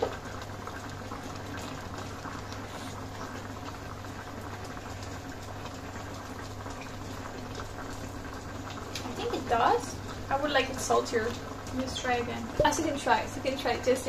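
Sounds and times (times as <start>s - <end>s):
sauce boiling in a pan: 0.0s - 14.0s.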